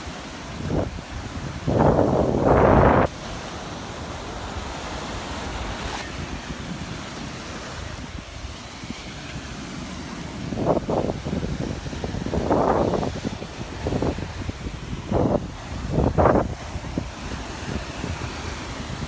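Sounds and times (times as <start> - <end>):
surf washing onto beach: 0.0 - 19.0
wind on microphone: 0.0 - 19.0.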